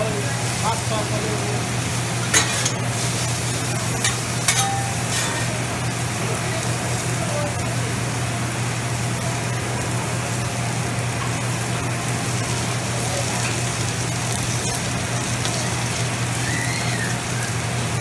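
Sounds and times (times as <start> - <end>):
food sizzling on griddle: 0.0 - 18.0.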